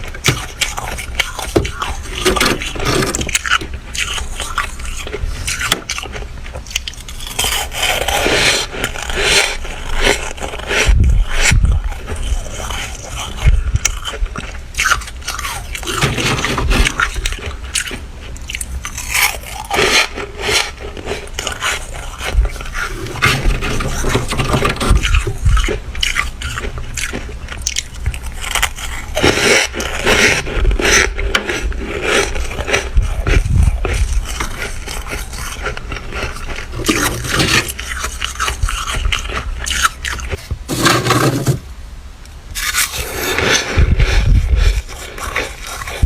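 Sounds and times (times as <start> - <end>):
chewing: 0.0 - 40.6, 42.6 - 46.0
frost scraping and crunching: 0.0 - 41.7, 42.3 - 46.0.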